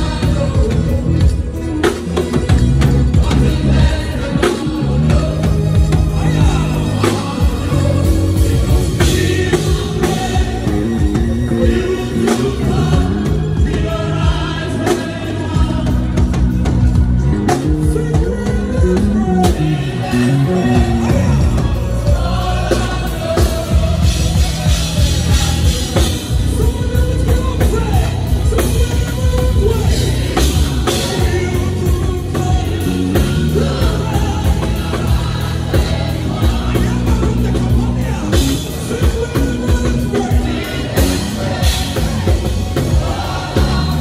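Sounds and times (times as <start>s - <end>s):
drum kit: 0.0s - 44.0s
electric bass guitar: 0.0s - 44.0s
keyboards: 0.0s - 44.0s.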